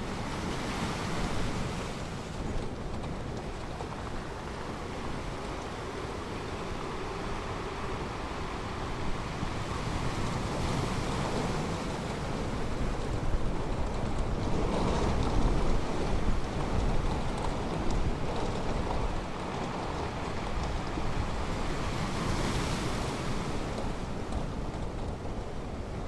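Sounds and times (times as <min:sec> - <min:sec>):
waves washing onto shore: 0:00.0 - 0:26.0.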